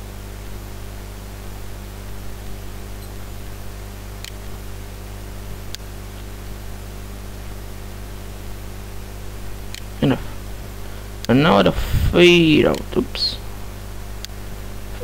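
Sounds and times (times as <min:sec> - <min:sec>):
low electrical hum: 0:00.0 - 0:15.0
microphone hiss: 0:00.0 - 0:15.0.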